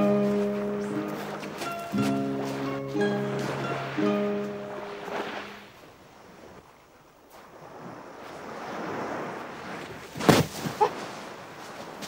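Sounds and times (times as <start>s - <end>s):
waves washing on rocky shore: 1.3s - 6.6s, 7.3s - 12.0s.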